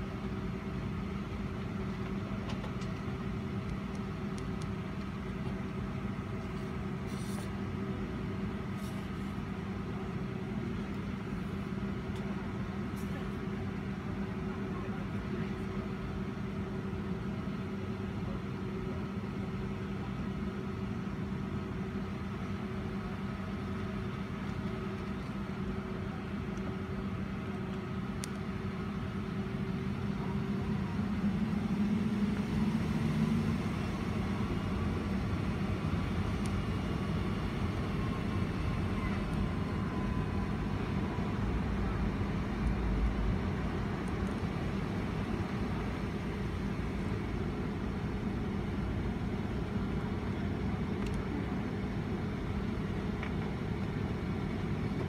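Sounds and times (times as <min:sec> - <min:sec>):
jet engines idling drone: 0:00.0 - 0:55.0.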